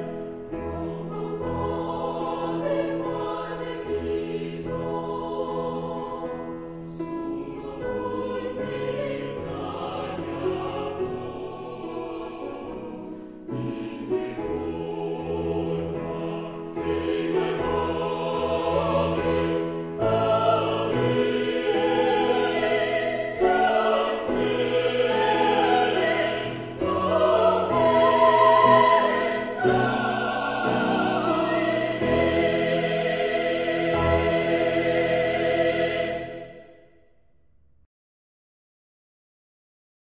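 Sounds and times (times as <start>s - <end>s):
choral singing with vibrato: 0.0s - 37.0s.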